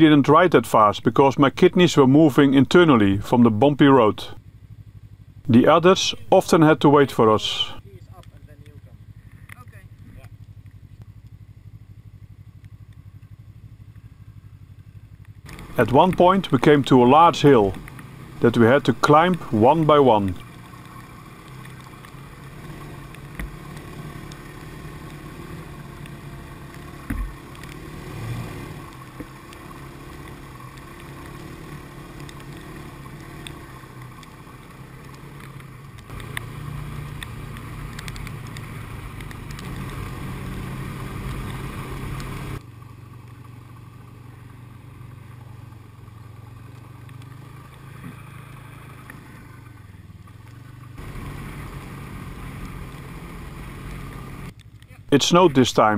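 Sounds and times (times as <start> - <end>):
snowmobile engine running: 0.0 - 4.4, 5.5 - 10.3, 15.5 - 44.6, 45.5 - 55.9.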